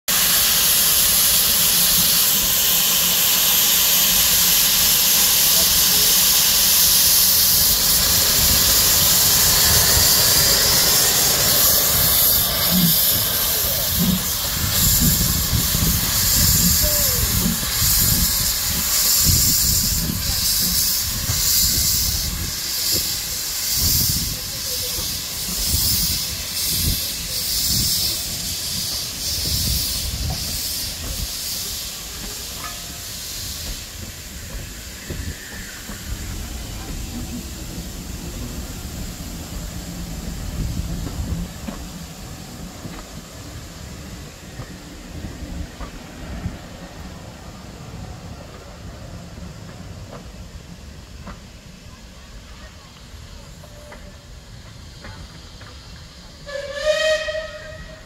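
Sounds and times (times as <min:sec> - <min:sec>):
coach wheels rumbling: 0:00.1 - 0:58.0
steam locomotive hissing steam: 0:00.1 - 0:58.0.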